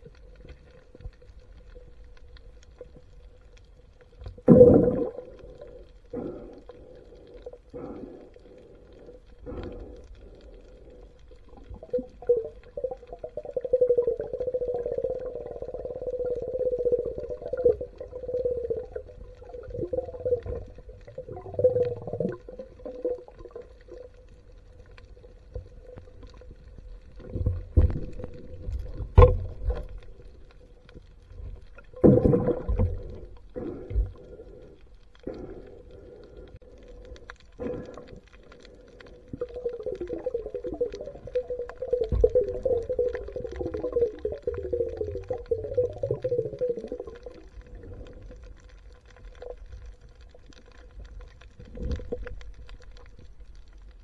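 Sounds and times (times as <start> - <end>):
underwater hum: 0.0 - 54.0
water swishing: 0.0 - 54.0.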